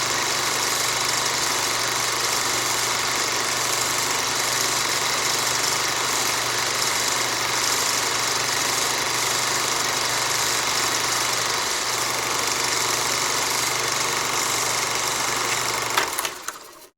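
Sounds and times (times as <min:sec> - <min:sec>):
film projector whirring clatter: 0:00.0 - 0:16.9.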